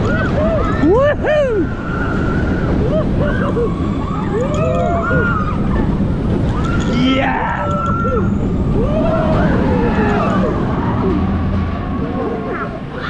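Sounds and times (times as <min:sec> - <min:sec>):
riders screaming and whooping: 0:00.0 - 0:13.0
wheels rumbling on steel track: 0:00.0 - 0:13.0
wind rushing on microphone: 0:00.0 - 0:13.0.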